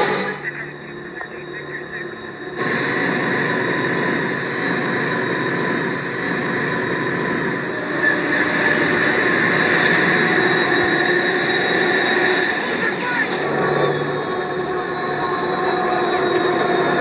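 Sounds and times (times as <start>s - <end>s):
train wheels grinding and squealing: 0.0s - 17.0s.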